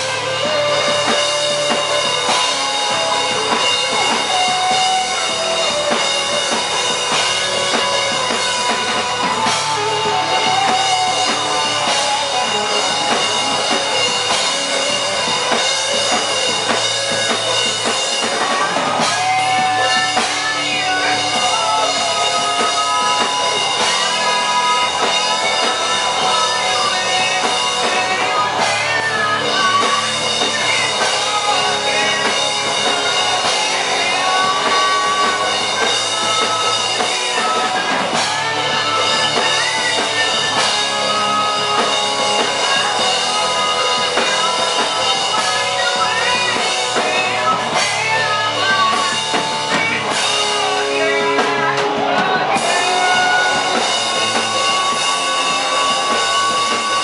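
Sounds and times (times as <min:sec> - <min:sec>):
bass guitar: 0:00.0 - 0:57.0
drum kit: 0:00.0 - 0:57.0
electric guitars: 0:00.0 - 0:57.0
person singing: 0:00.0 - 0:57.0.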